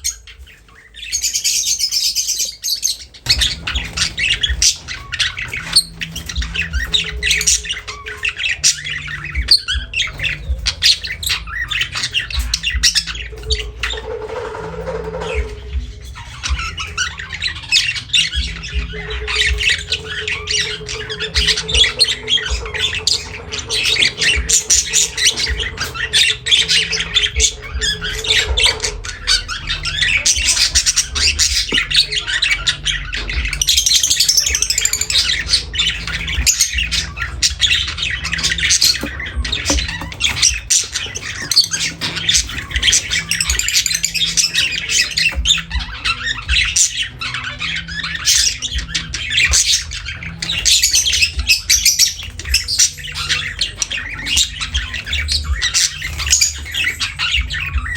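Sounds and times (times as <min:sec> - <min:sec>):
lovebirds chirping and squawking: 0:00.0 - 0:57.9.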